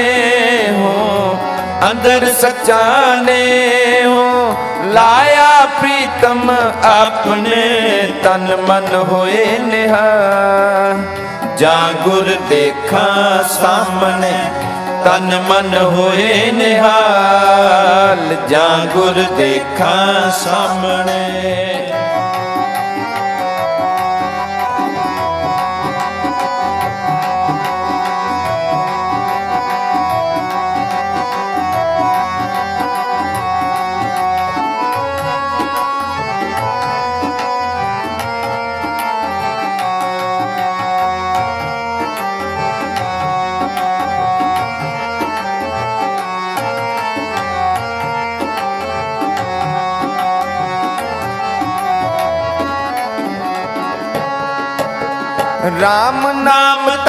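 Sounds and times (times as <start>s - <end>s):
reed harmoniums playing melody: 0.0s - 57.0s
tabla drumming: 0.0s - 57.0s.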